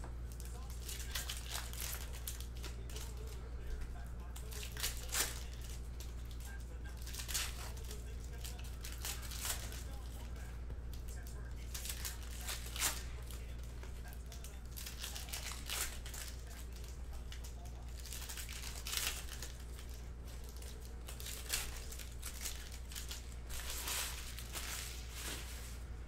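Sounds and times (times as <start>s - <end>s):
steady low hum: 0.0s - 26.0s
foil wrappers crinkling and tearing: 0.2s - 26.0s.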